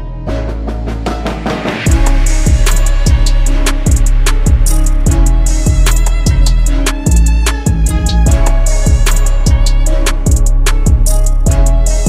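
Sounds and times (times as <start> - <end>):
music with heavy drum beat: 0.3 - 12.0.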